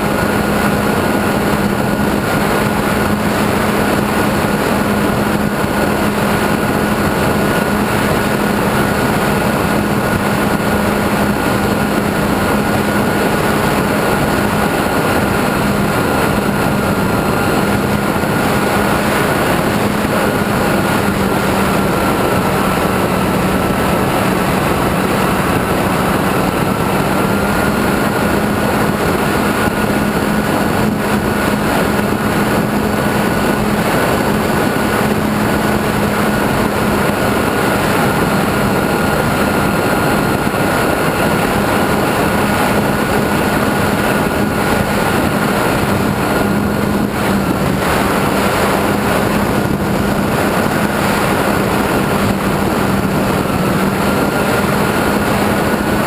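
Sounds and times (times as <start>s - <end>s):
electric motor and propeller whine: 0.0s - 56.0s
heavy airflow noise: 0.0s - 56.0s.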